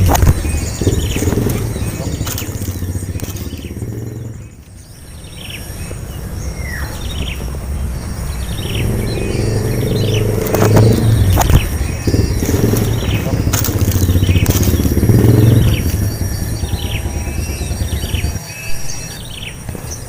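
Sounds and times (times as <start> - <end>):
bird chirps: 0.0 - 20.0
low engine rumble: 0.0 - 20.0.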